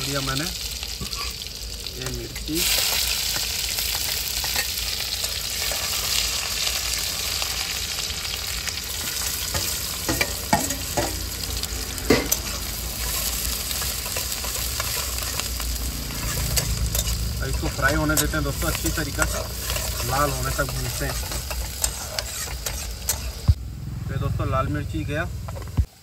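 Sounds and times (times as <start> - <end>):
onion sizzling in hot oil: 0.0 - 23.6.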